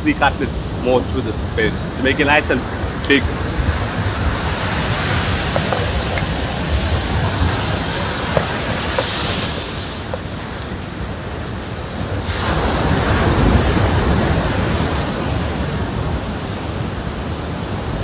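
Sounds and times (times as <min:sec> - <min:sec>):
wind buffeting microphone: 0:00.0 - 0:18.0
surf breaking on beach: 0:00.3 - 0:18.0.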